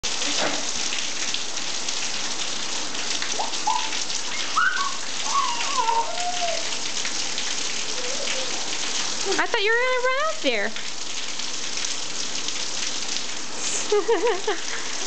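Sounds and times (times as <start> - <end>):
rain on concrete: 0.0 - 15.0.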